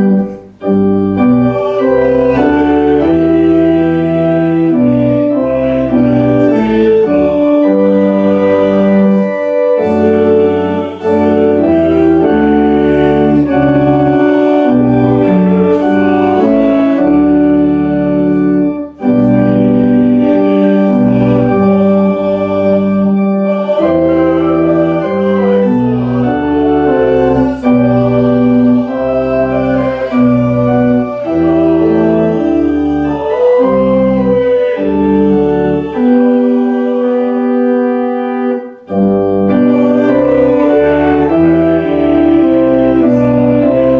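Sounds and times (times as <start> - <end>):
church organ chords: 0.0 - 43.9.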